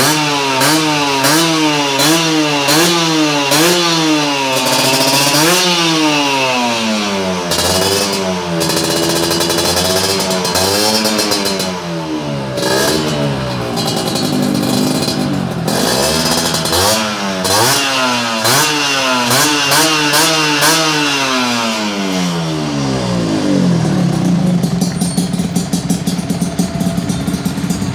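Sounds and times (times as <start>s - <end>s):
two-stroke motorcycle engine revving: 0.0s - 27.9s.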